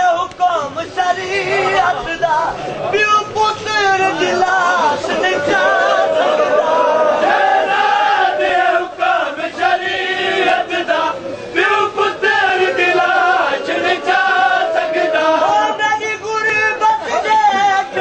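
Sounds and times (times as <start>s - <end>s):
crowd noise: 0.0s - 18.0s
men chanting a lament: 0.0s - 18.0s.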